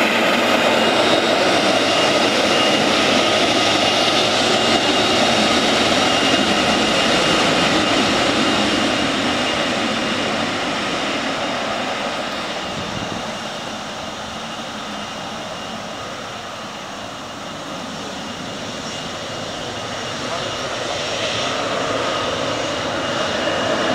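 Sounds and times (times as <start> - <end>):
jet engines rushing and whining: 0.0 - 23.9.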